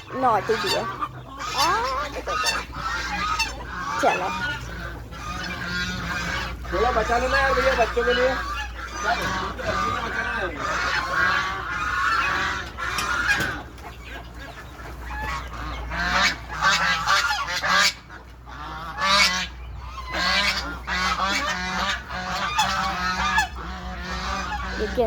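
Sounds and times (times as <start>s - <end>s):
farm fowl honking: 0.0s - 25.0s.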